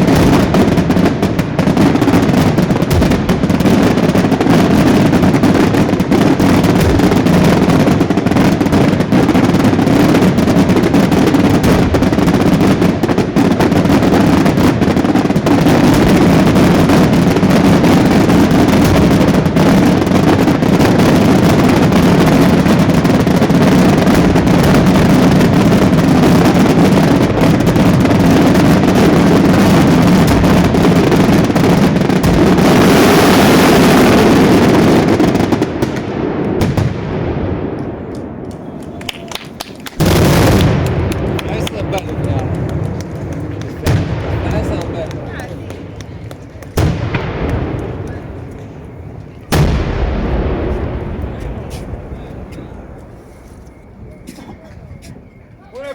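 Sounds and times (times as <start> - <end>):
fireworks barrage rumbling: 0.0 - 55.9.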